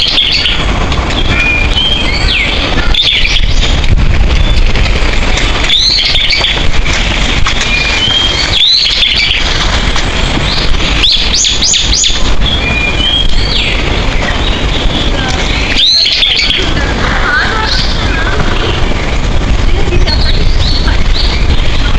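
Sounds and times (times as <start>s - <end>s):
songbirds chirping: 0.0s - 21.9s
steady rushing noise: 0.0s - 21.9s.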